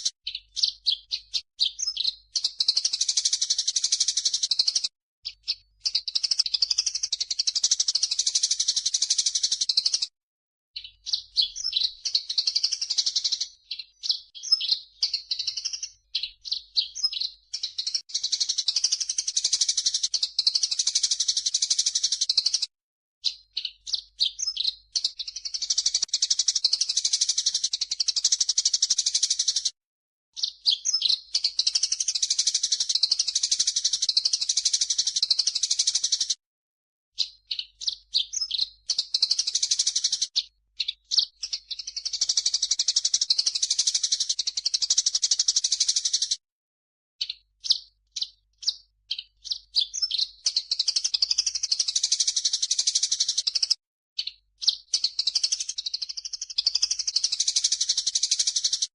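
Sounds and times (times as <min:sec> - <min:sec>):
sparrows chattering: 0:00.0 - 0:10.1, 0:10.8 - 0:22.6, 0:23.2 - 0:29.7, 0:30.4 - 0:36.3, 0:37.2 - 0:46.4, 0:47.2 - 0:58.9.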